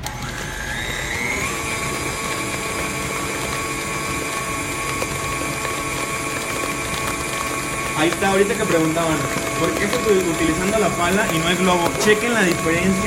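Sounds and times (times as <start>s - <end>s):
stand mixer whisk beating: 0.0s - 13.0s.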